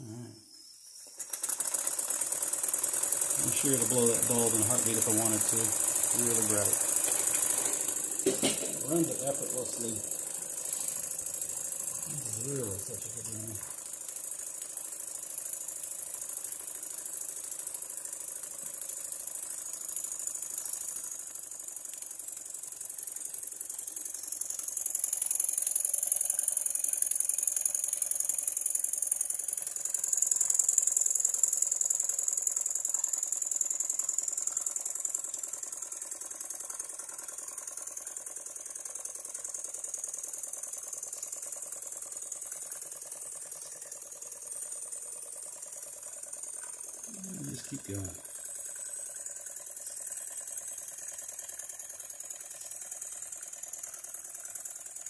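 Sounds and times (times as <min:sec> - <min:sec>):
steam engine mechanical rattle: 0:01.0 - 0:55.0.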